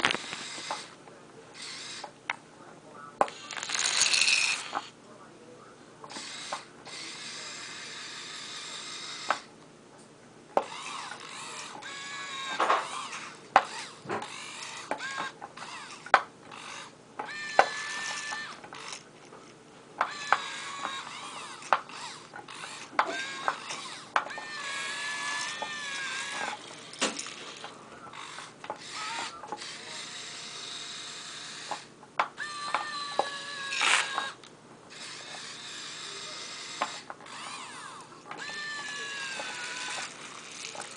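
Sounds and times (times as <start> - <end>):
small electric motors whining: 0.0 - 1.0, 1.6 - 2.2, 3.2 - 5.0, 6.1 - 9.5, 10.6 - 40.9.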